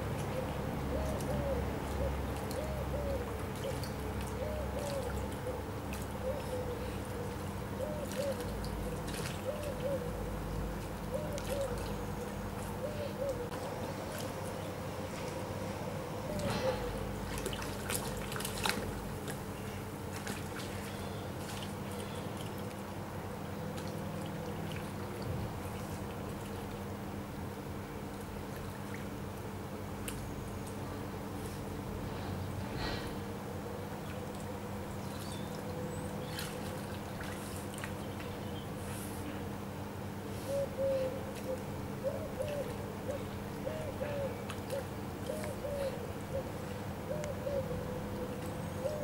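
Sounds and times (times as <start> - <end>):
river water trickling: 0.0 - 32.5, 33.2 - 49.0
steady low hum: 0.0 - 49.0.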